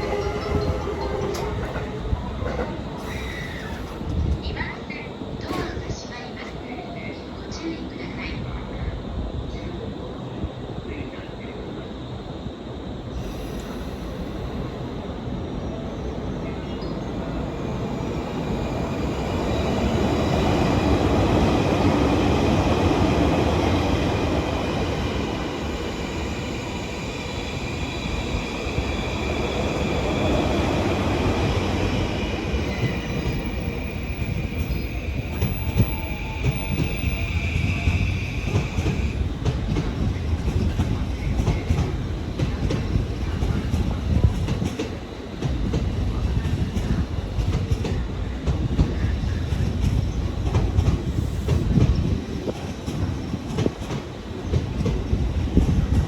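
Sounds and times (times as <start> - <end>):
electric train high whine: 0.0 - 56.0.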